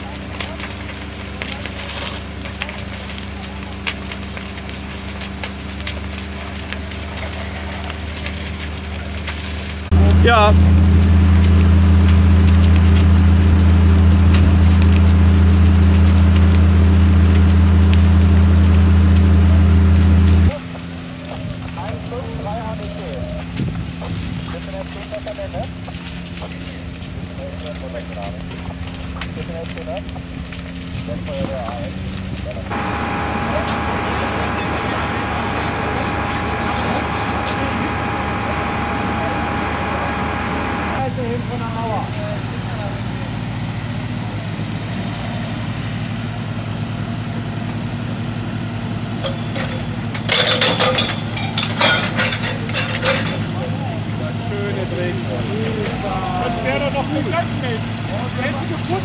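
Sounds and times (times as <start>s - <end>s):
fire crackling and popping: 0.0s - 59.0s
low engine drone: 0.0s - 59.0s.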